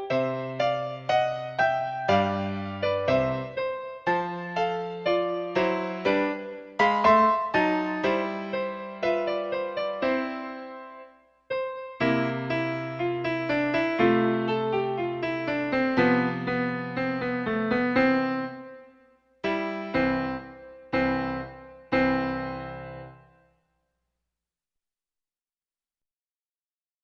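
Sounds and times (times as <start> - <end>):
piano music: 0.0 - 23.4.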